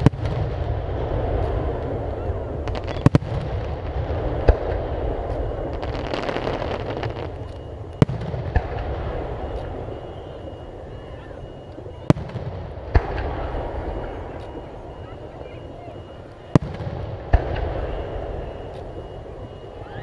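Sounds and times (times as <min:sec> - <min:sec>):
continuous low rumble: 0:00.0 - 0:20.0.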